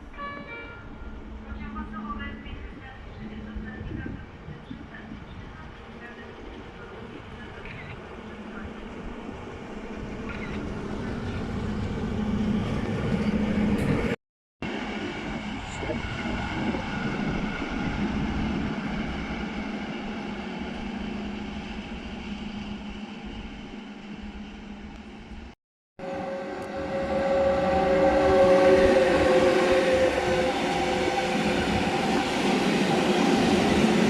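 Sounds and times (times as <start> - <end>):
train humming and whining: 0.0 - 34.0.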